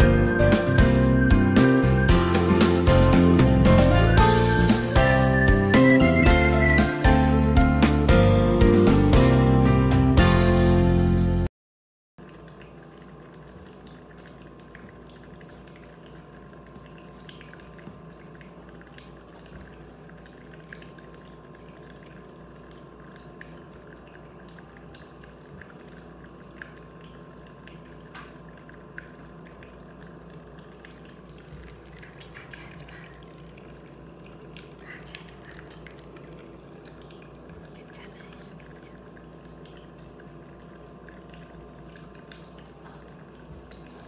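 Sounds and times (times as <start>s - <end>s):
nebulizer humming: 0.0s - 9.3s, 12.3s - 44.0s.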